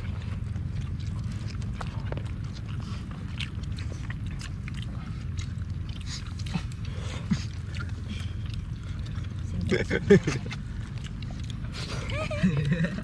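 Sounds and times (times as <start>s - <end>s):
people chewing crunchy food: 0.0s - 13.0s
steady low rumble: 0.0s - 13.0s.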